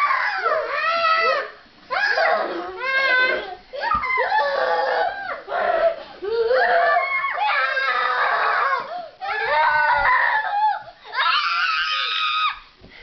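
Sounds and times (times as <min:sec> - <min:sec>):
boys shrieking and screaming: 0:00.0 - 0:12.6.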